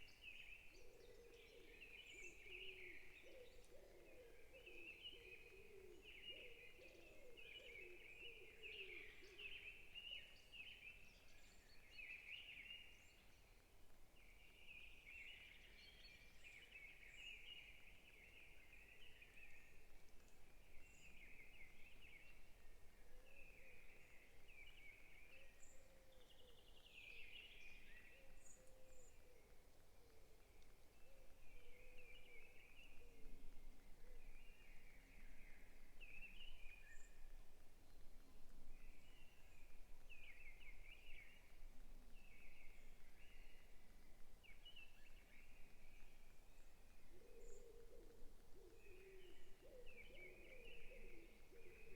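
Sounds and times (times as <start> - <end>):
low bird calls: 0.5 - 13.3, 14.4 - 51.9.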